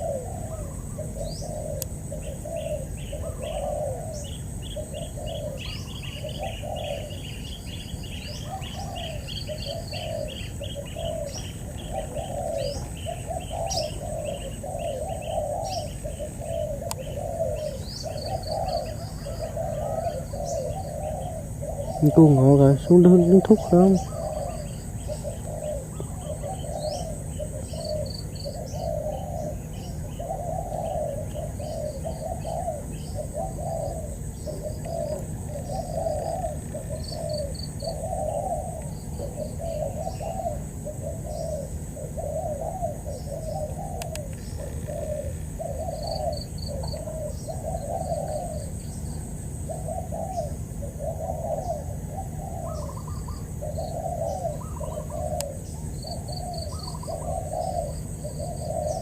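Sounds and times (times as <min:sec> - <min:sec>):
doves cooing: 0:00.0 - 0:59.0
small birds chirping faintly: 0:00.0 - 0:59.0.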